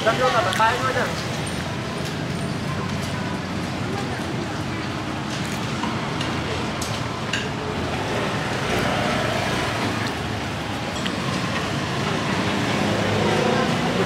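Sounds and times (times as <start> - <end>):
passing traffic: 0.0 - 14.0.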